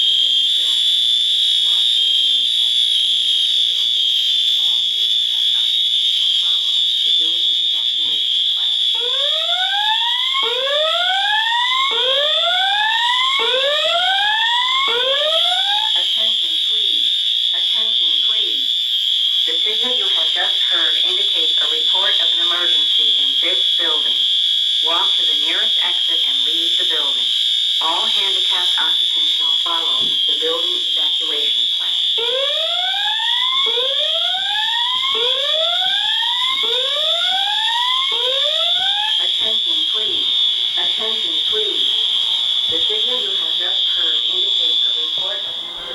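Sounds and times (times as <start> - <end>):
high-pitched steady alarm tone: 0.0 - 45.9
slow-whoop alarm sweeps: 0.0 - 45.9.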